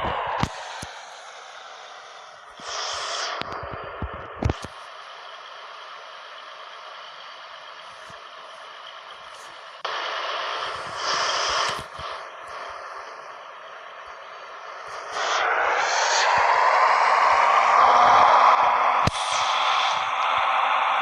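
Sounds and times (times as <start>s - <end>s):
tractor running: 0.0s - 21.0s.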